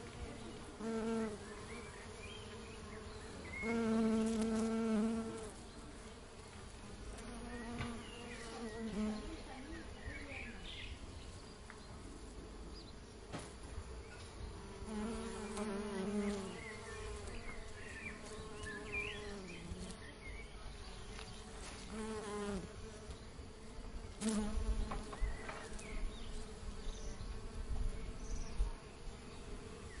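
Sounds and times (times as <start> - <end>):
bee flying past: 0.0 - 30.0
honey bees buzzing: 0.0 - 30.0.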